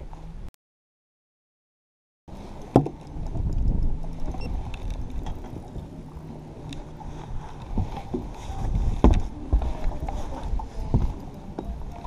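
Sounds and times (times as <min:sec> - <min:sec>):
wind and water rumble: 0:02.3 - 0:12.0.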